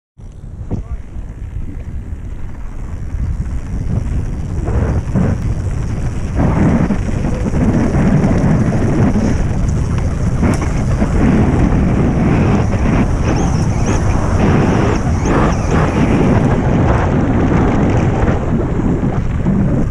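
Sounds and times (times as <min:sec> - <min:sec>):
mountain bike rattling on trail: 0:00.2 - 0:19.9
wind on camera microphone: 0:00.2 - 0:19.9.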